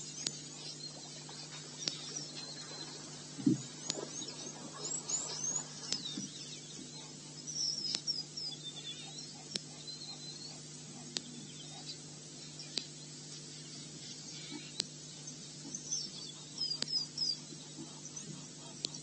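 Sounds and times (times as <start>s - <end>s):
small birds twittering: 0.0s - 19.0s
steady low hum: 0.0s - 19.0s.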